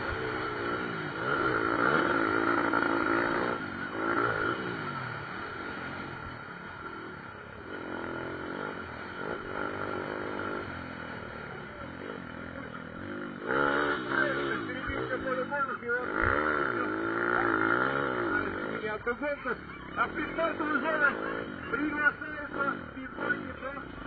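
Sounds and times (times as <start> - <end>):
pit bike engines revving: 0.0 - 24.0.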